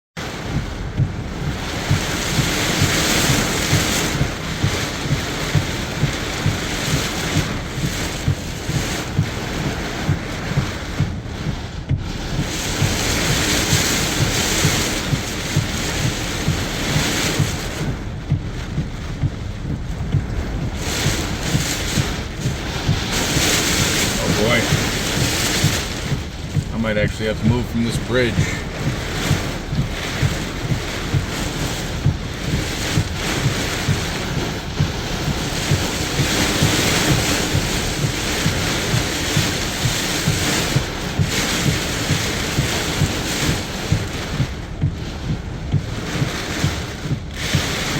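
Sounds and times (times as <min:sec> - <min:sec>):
steady low thumping: 0:00.2 - 0:47.9
storm wind buffeting microphone: 0:00.2 - 0:47.9.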